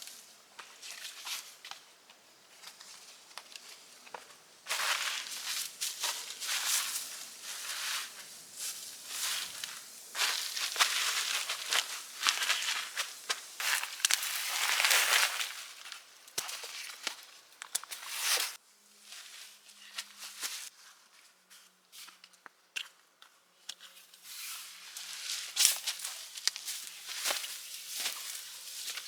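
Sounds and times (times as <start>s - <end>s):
rustling and crunching: 0.0s - 22.3s, 23.7s - 29.0s.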